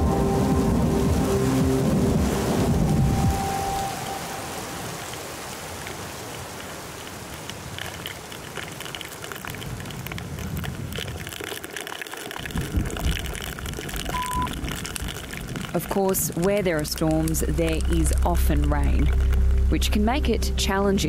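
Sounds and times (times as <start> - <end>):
rain hitting a hard surface: 0.0 - 20.5.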